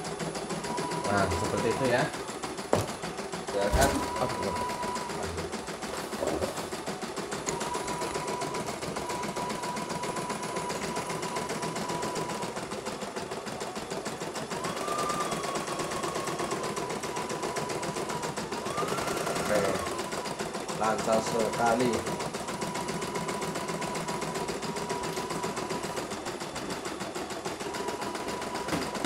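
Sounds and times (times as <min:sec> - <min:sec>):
thin machine whine: 0:00.0 - 0:02.9, 0:03.5 - 0:29.0
embroidery machine needle patter: 0:00.0 - 0:29.0.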